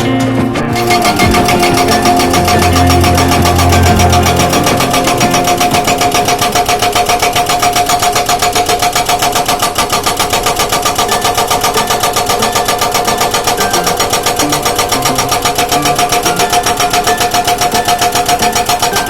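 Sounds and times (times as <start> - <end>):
steady whine: 0.0 - 19.0
hydraulic breaker hammering rock: 0.2 - 19.0.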